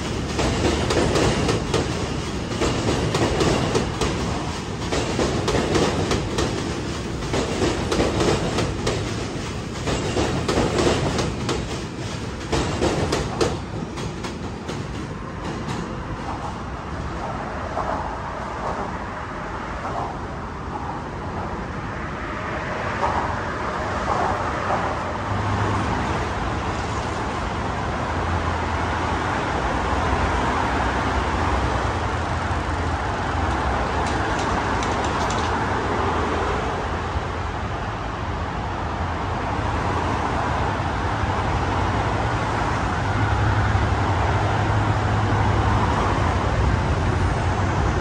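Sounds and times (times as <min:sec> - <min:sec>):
road traffic drone: 0:00.0 - 0:48.0.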